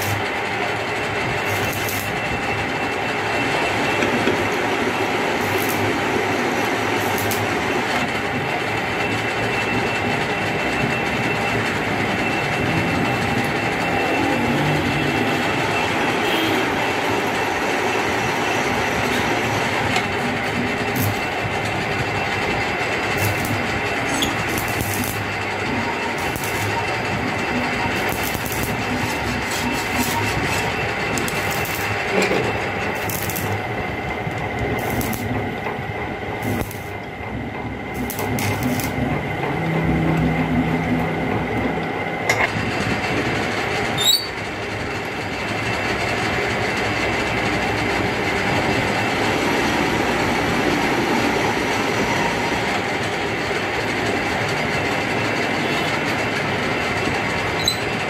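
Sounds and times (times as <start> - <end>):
metal lathe rumbling and whining: 0.0 - 58.0.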